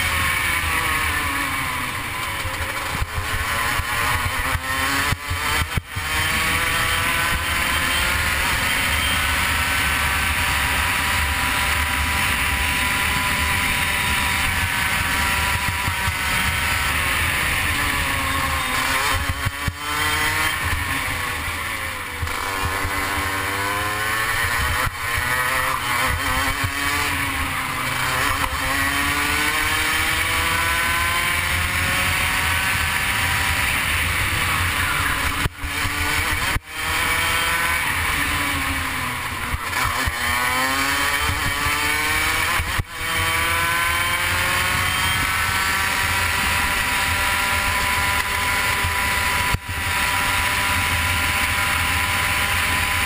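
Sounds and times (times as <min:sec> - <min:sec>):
kart engine racing: 0:00.0 - 0:53.0.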